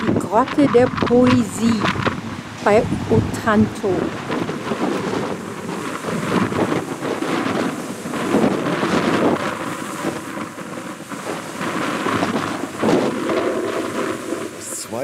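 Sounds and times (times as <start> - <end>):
sea surf breaking on rocks: 0.0 - 15.0
wind buffeting the microphone: 0.0 - 15.0.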